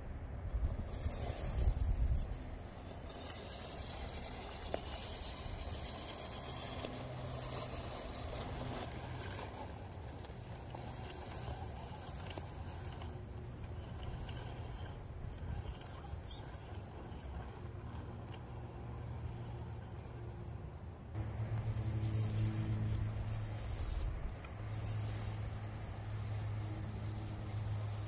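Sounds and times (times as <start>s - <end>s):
electric motor hum: 0.0s - 28.0s
tyres scrabbling on grit: 0.6s - 20.5s, 21.1s - 28.0s.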